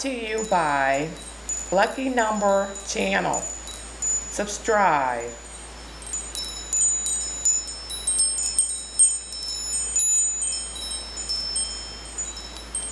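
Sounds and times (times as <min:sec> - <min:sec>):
wind chimes ringing: 0:00.0 - 0:12.9.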